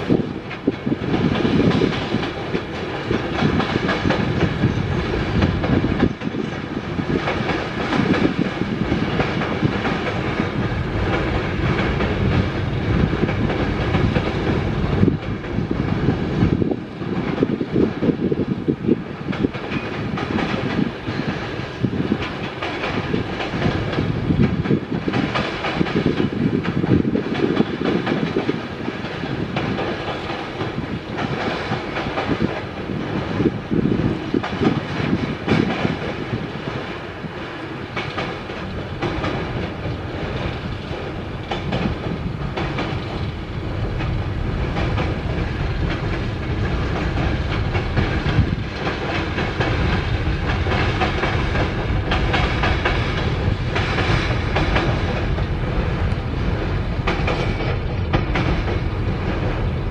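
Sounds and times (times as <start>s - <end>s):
train rumbling over bridge: 0.0s - 59.9s
wheels clacking over rails: 0.0s - 59.9s.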